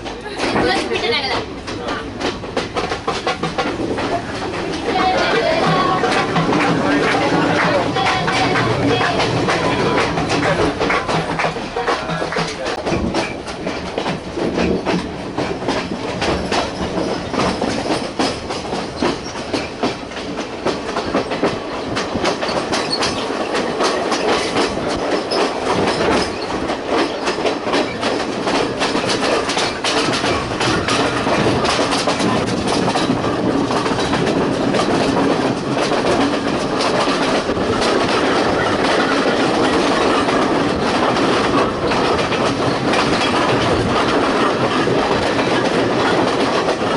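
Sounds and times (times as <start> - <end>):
train wheels clattering over rail joints: 0.0 - 46.9.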